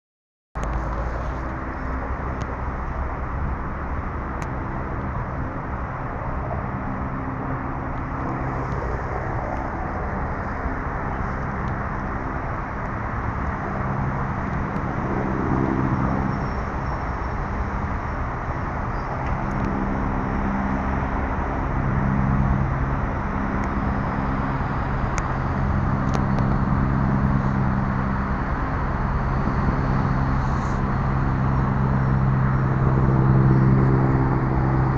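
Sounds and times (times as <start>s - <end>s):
helicopter roar: 1.1s - 34.9s.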